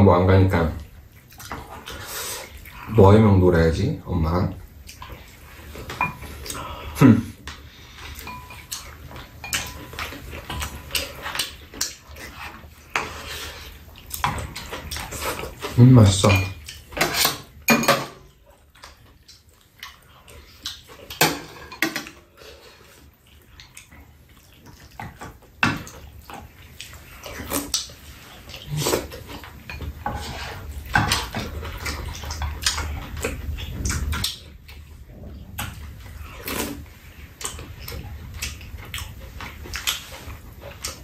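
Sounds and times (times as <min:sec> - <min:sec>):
chewing and slurping: 0:00.8 - 0:03.0, 0:04.5 - 0:17.6, 0:18.3 - 0:41.0.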